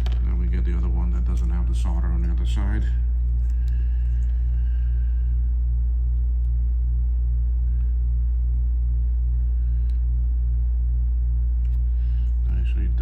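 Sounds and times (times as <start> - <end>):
low electrical hum with throb: 0.0 - 13.0.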